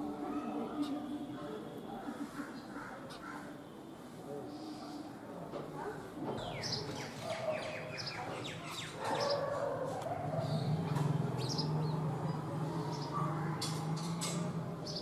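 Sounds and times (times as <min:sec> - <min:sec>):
sparrows chirping: 0:00.0 - 0:03.5, 0:06.2 - 0:15.0.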